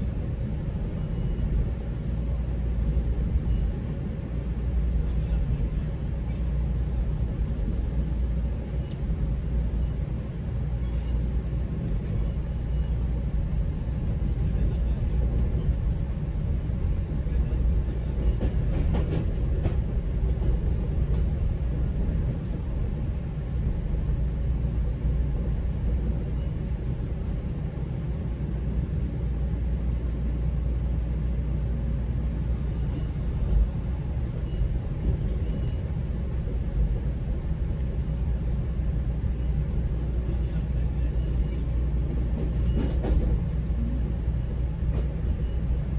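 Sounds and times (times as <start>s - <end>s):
train rumbling inside coach: 0.0s - 45.9s.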